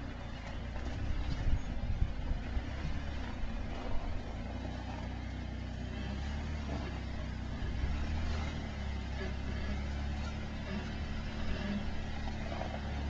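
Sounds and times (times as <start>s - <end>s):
off-road engine low rumble: 0.0s - 13.0s.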